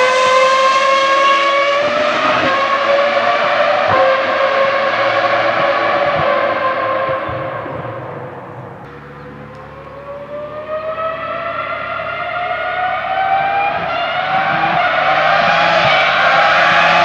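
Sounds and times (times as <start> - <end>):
racing car engine accelerating: 0.0 - 17.0.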